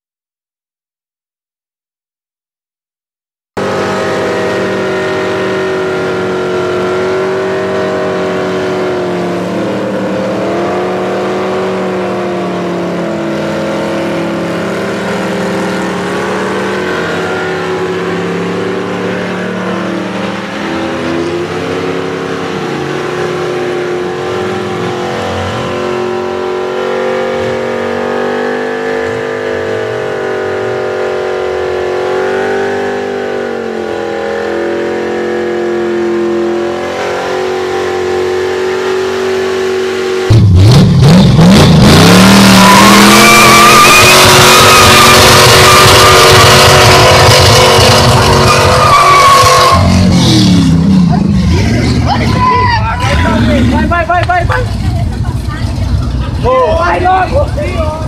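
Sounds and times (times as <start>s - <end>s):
tyres screeching on asphalt: 3.6s - 40.3s, 41.0s - 58.0s
car engine revving high: 3.6s - 58.0s.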